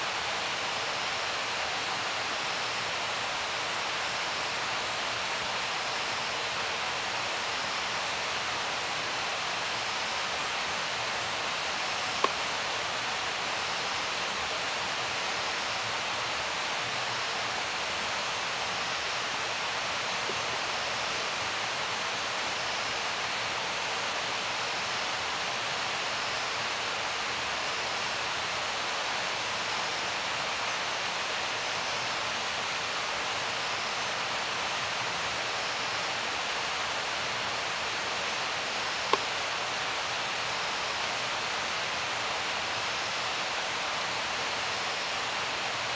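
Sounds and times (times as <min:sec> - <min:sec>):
steady rushing hiss: 0:00.0 - 0:45.9.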